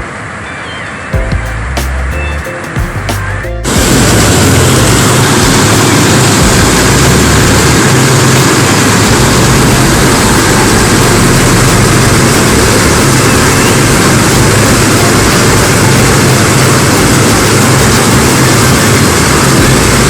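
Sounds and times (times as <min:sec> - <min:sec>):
low hum: 0:01.2 - 0:20.0
mill machinery running: 0:02.8 - 0:20.0.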